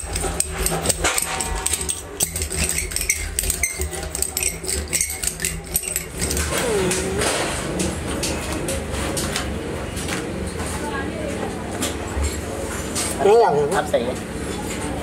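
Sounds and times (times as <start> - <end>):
low engine-like hum: 0.0 - 15.0.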